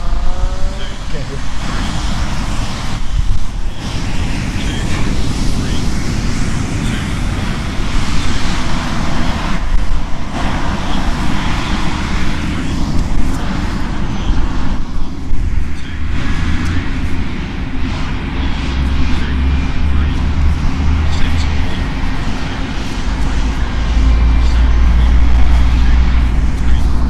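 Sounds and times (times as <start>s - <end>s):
constant low rumble: 0.0s - 27.0s
rushing hiss: 0.0s - 27.0s.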